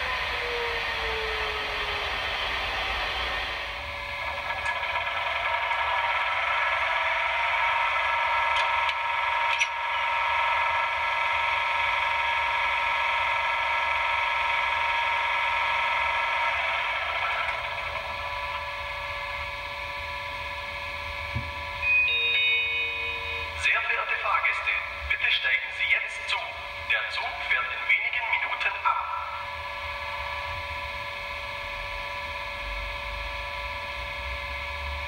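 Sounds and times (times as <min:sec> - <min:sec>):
model locomotive running hum: 0:00.0 - 0:35.0.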